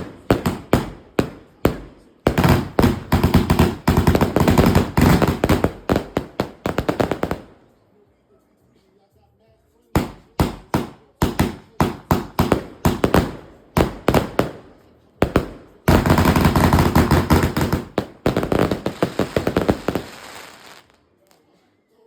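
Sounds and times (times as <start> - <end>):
fireworks bangs: 0.0 - 7.6, 10.0 - 21.0.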